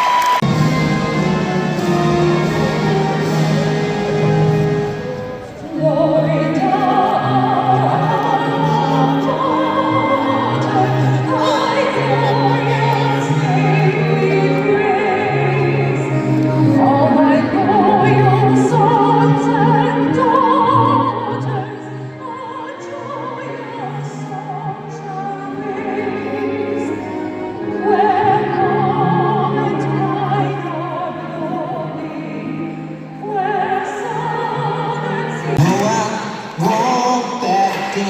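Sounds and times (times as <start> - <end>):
operatic solo singing: 0.2 - 38.0
orchestral accompaniment: 0.4 - 38.0.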